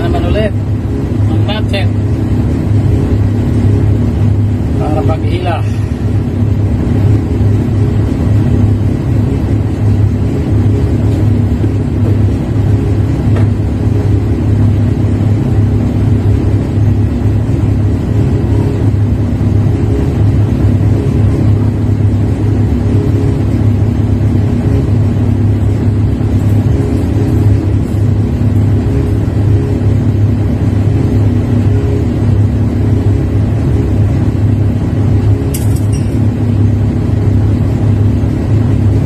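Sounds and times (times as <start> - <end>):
heavy machinery engine droning: 0.0 - 39.0.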